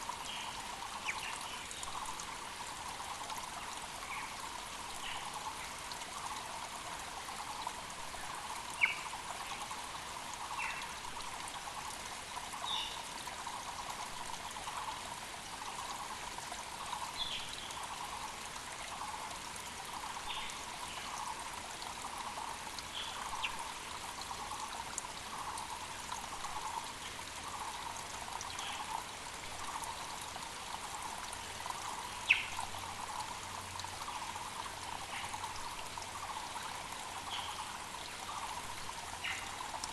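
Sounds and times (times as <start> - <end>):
creek trickling and splashing: 0.0 - 39.9.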